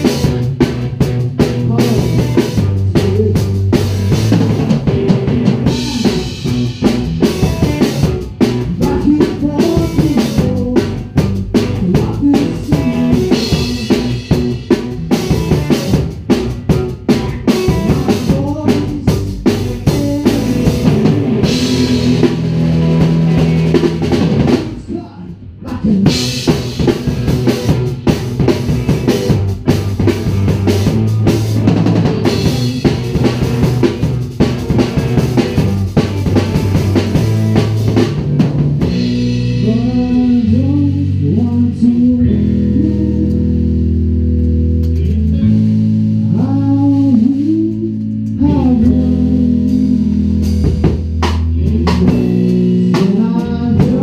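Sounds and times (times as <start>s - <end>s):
drum kit beating hard: 0.0s - 54.0s
electric guitars: 0.0s - 54.0s
live band playing: 0.0s - 54.0s.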